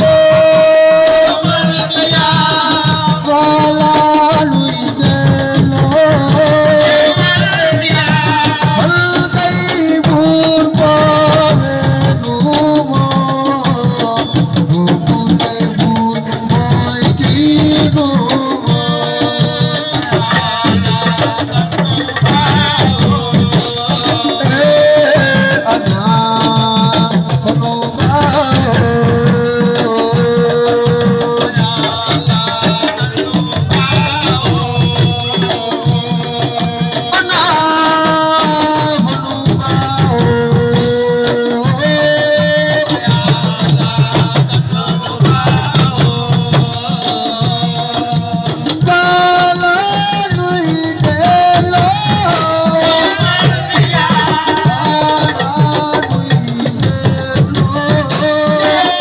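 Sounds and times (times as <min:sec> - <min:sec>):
hand drums and shakers: 0:00.0 - 0:59.0
person singing: 0:00.0 - 0:59.0.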